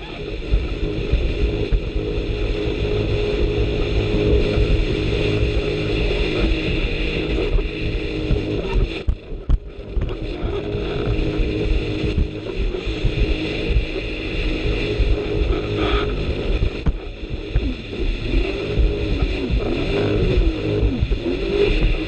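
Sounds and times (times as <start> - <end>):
jet ski engine droning: 0.0 - 22.0
rumbling wind: 0.0 - 22.0
rushing water: 0.0 - 22.0.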